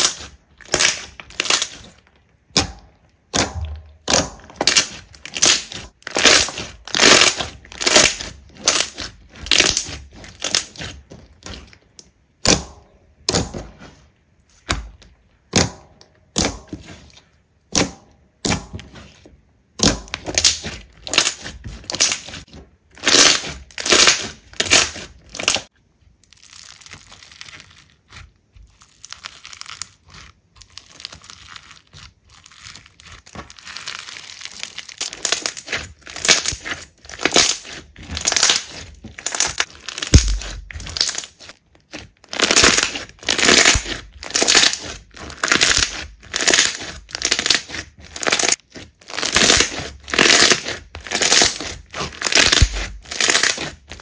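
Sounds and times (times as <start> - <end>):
slime crackling and popping: 0.0 - 13.6, 19.8 - 54.0.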